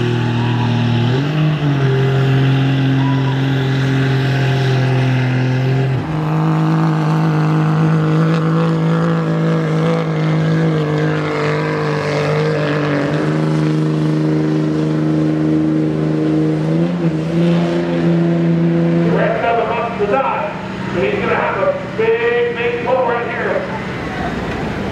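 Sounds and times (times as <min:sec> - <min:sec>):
diesel truck engine at full throttle: 0:00.0 - 0:24.9.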